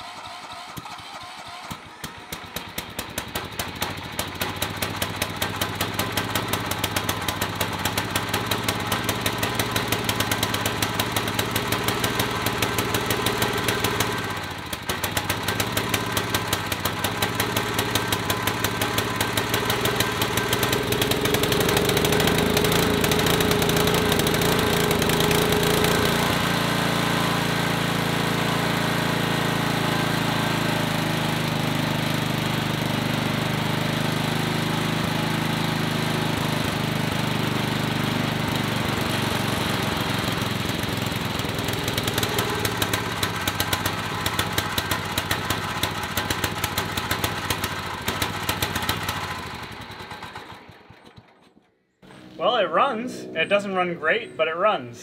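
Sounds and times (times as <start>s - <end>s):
small gasoline engine running rough: 0.0s - 52.4s.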